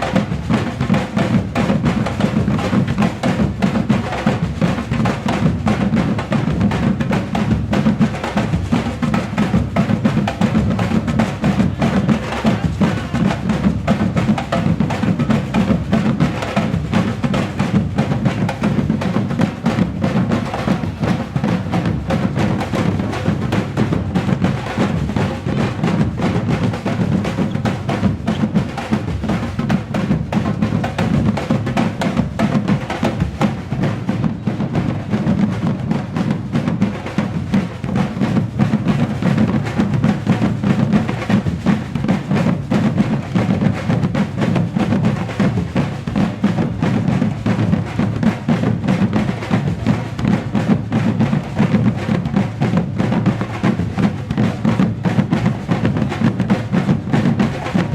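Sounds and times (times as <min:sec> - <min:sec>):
drum ensemble playing: 0:00.0 - 0:57.9.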